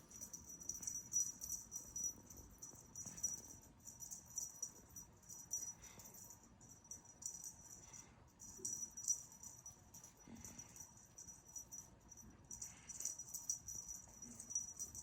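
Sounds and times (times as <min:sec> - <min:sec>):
cat toy rattling and jingling: 0:00.0 - 0:15.0.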